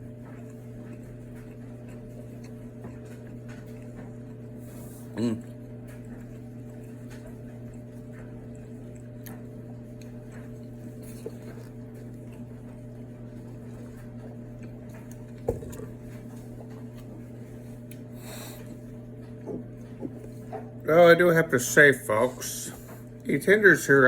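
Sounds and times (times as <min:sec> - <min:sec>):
chewing and mouth sounds: 0:00.0 - 0:20.8
steady low hum: 0:00.0 - 0:24.0.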